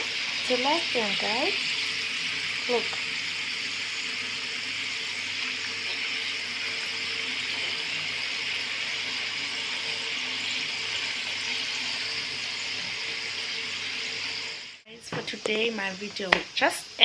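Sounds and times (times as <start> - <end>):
potato chips sizzling in hot oil: 0.0 - 17.0.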